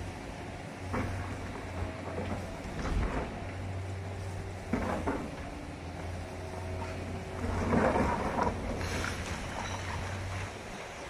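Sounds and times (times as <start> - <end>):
excavator engine humming: 0.0 - 11.0.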